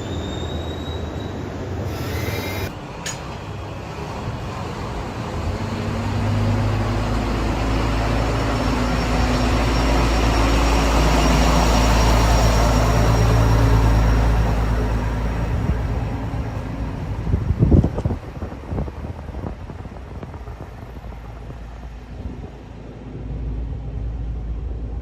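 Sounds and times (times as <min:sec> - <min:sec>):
diesel railcar engine drone: 0:00.0 - 0:25.0.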